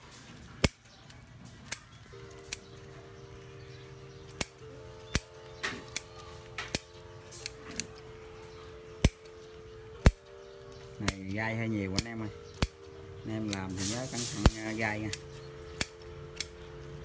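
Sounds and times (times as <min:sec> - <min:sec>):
pruning shears snipping: 0:00.0 - 0:03.0, 0:04.2 - 0:10.2, 0:10.8 - 0:16.6.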